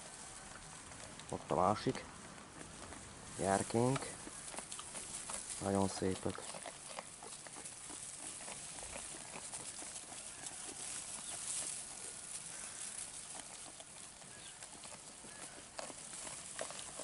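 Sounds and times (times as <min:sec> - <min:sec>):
hay rustling: 0:00.0 - 0:17.0
sheep chewing dry hay: 0:00.0 - 0:17.0.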